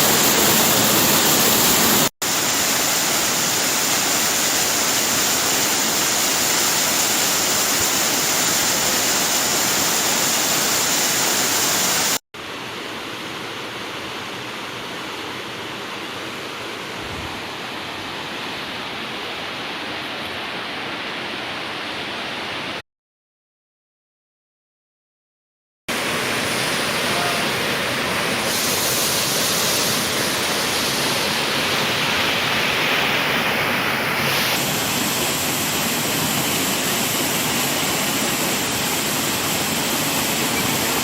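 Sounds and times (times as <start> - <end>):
waterfall rushing water: 0.0 - 22.8, 25.9 - 41.0.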